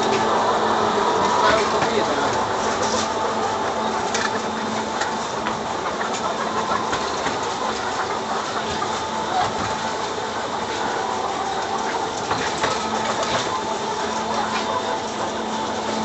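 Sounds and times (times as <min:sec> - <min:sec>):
trolley running hum: 0:00.0 - 0:16.0.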